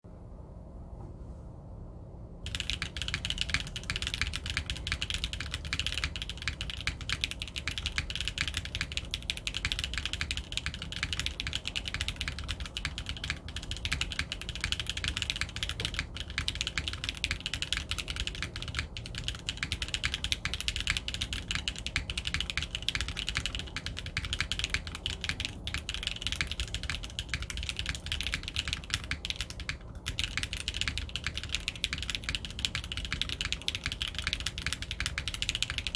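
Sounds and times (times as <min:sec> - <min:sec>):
mechanical keyboard typing: 0:02.5 - 0:35.9.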